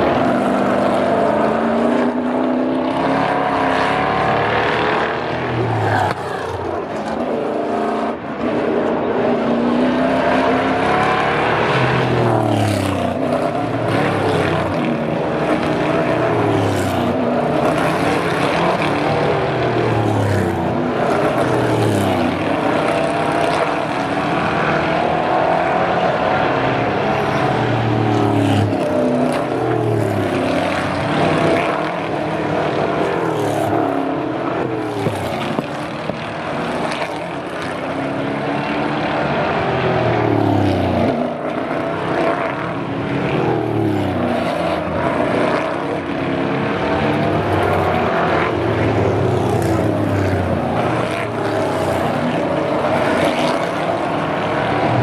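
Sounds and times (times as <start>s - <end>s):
race car engines braking and accelerating: 0.0s - 55.0s.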